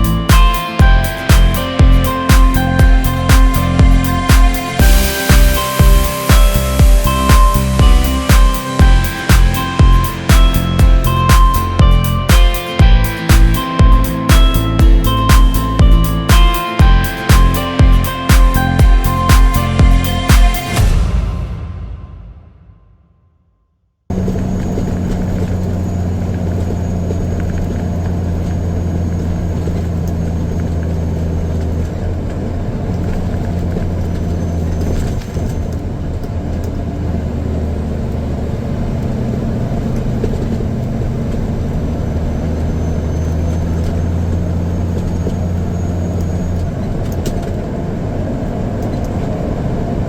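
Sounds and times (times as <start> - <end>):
truck engine droning: 0.0 - 22.5, 24.1 - 48.0.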